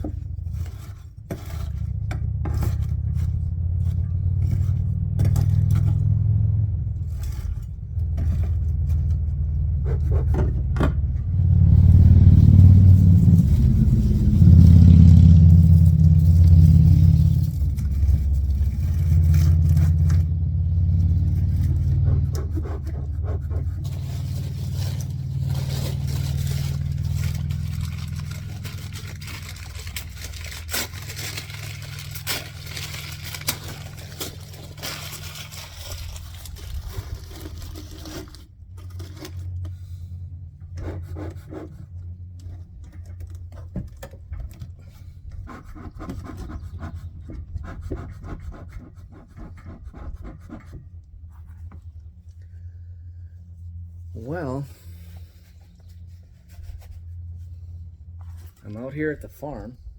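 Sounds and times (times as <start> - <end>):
vehicle engine humming: 0.0 - 48.2, 48.8 - 59.9
scrapes and rubbing of handling: 0.0 - 59.8.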